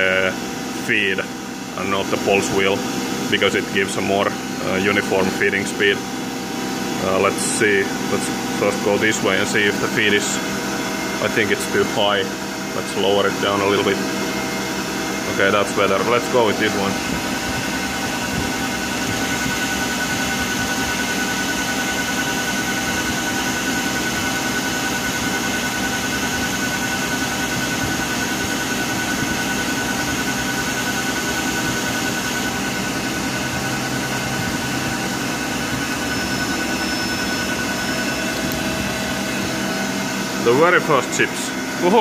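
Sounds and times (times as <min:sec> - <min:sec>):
lathe spindle humming: 0:00.0 - 0:42.0.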